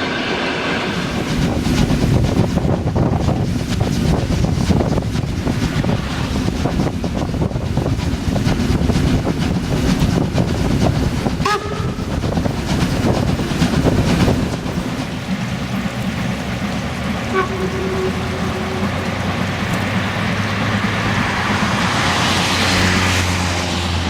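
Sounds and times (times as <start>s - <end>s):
steam locomotive exhaust beats: 0.0s - 24.0s.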